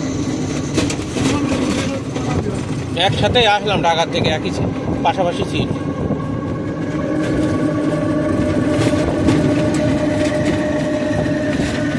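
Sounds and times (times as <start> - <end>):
road rumble: 0.0 - 11.9
vehicle engine drone: 0.0 - 11.9.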